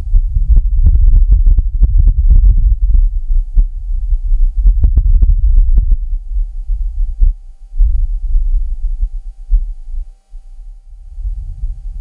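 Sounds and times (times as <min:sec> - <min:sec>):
wind rumbling in gusts: 0:00.0 - 0:09.2, 0:11.1 - 0:12.0
faint steady tone: 0:00.0 - 0:12.0.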